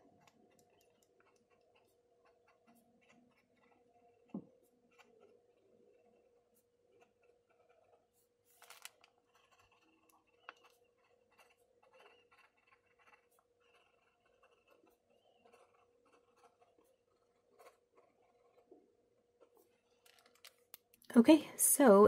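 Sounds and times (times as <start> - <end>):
pen scratching on paper: 0.1 - 20.0.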